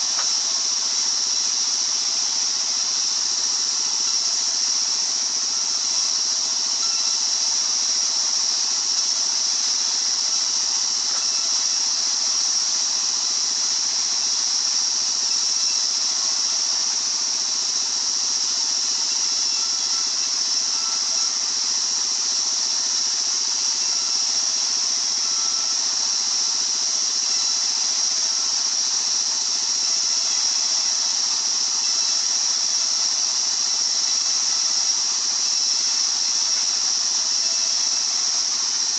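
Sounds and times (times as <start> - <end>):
circular saw hissing: 0.0 - 38.9.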